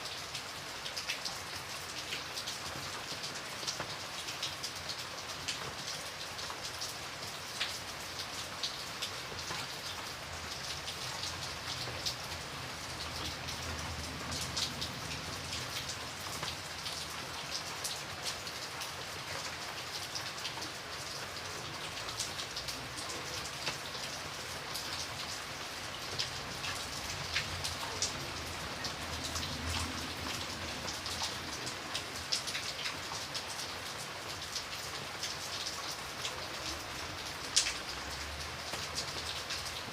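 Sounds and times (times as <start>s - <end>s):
raindrops pattering: 0.0s - 39.9s.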